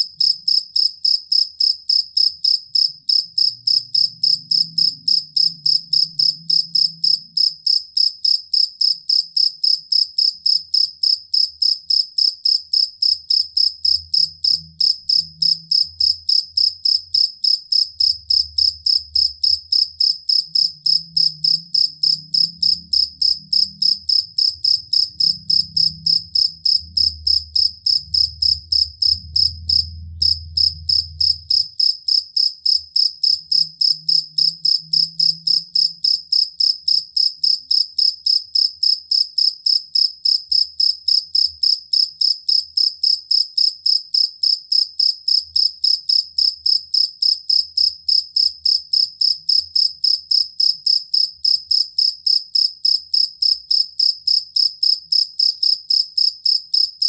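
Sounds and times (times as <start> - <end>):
field cricket chirping: 0.0 - 57.0.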